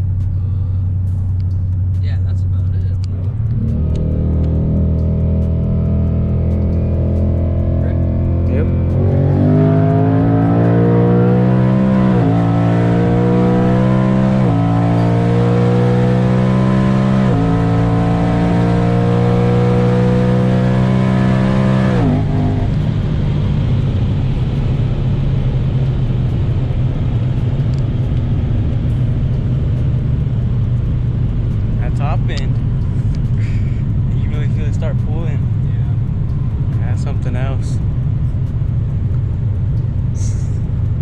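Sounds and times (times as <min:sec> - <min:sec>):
car engine accelerating through gears: 0:00.0 - 0:41.0
car rolling drone: 0:00.0 - 0:41.0.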